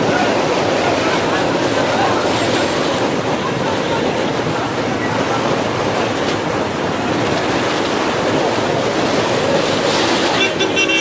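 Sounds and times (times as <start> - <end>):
train crossing a bridge: 0.0 - 11.0.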